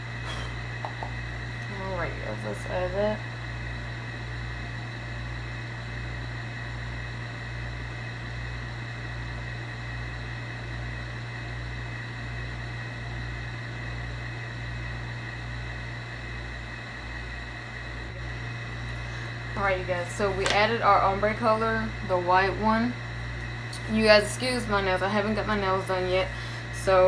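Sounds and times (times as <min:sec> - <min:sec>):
machine hum and hiss: 0:00.0 - 0:27.0.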